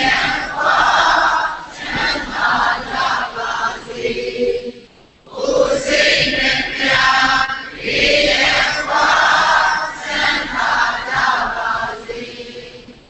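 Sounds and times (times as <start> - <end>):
recited chanting: 0.0 - 13.0.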